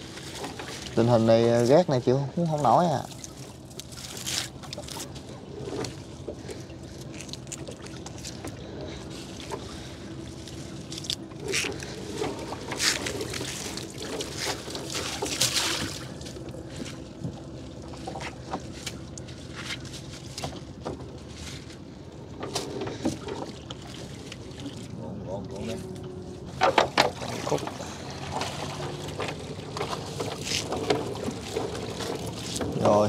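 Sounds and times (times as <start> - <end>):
water splashes: 0.0 - 21.9, 22.5 - 33.0
steady low hum: 0.0 - 33.0
water sloshing and dripping: 0.0 - 33.0.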